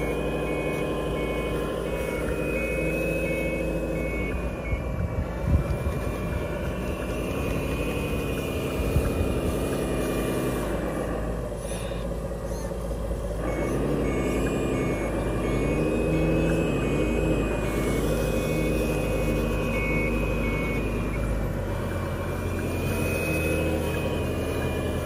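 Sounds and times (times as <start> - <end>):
reversing beeper: 0.0 - 25.0
simulated diesel engine: 0.0 - 25.0.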